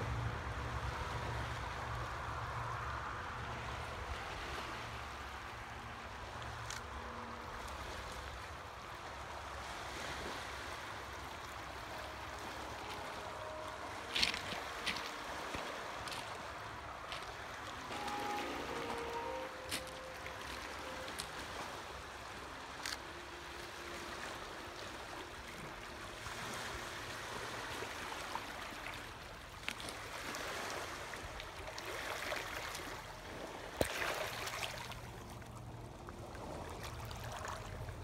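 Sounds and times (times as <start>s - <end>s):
waves lapping on rocks: 0.1s - 38.0s.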